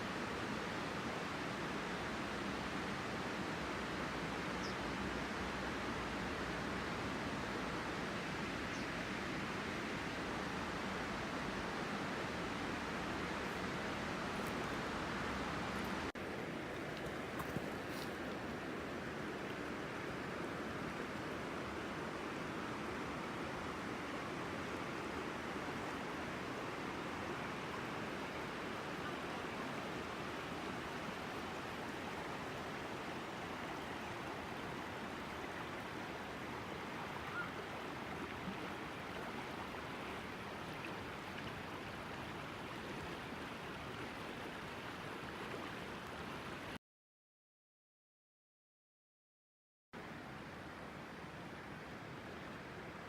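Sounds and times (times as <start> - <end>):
shallow river babbling: 0.0 - 46.8, 50.0 - 53.0.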